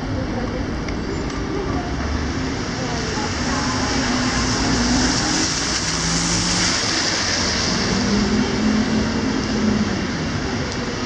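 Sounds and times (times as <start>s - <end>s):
rain falling on a street: 0.0s - 11.0s
traffic engine hum: 0.0s - 11.0s.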